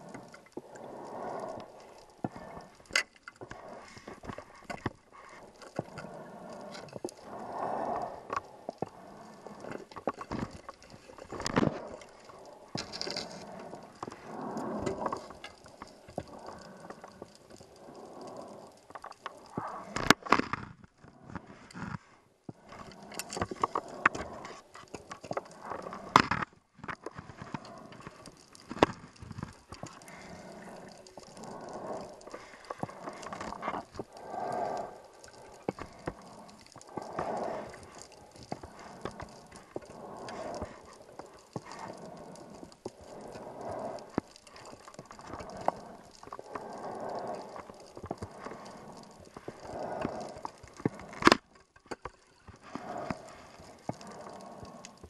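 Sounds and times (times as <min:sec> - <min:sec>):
exhaled bubbles gurgling: 0:00.0 - 0:20.3, 0:22.5 - 0:55.0.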